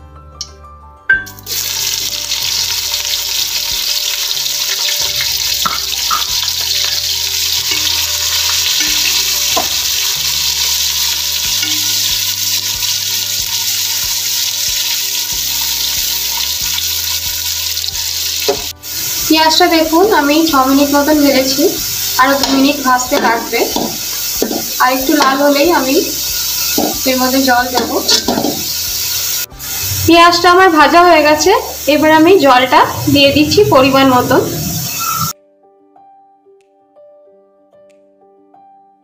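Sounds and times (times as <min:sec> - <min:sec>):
onions sizzling in hot oil: 0:01.3 - 0:35.4.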